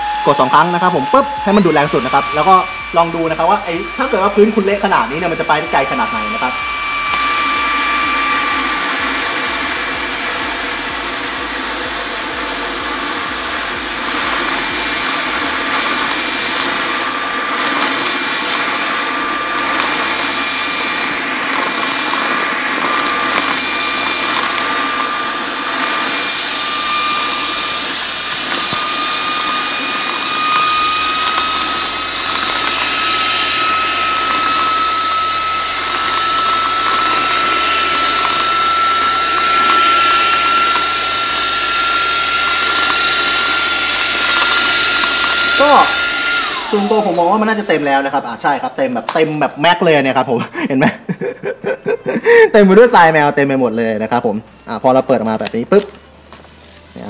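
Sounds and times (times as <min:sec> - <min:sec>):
rushing airflow: 0:00.0 - 0:48.4
vacuum motor whine: 0:00.0 - 0:50.3, 0:52.0 - 0:57.0.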